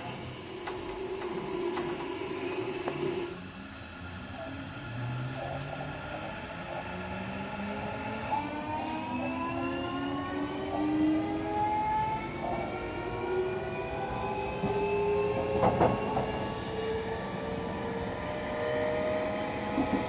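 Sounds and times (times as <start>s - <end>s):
electric train motors whining: 0.0s - 20.0s.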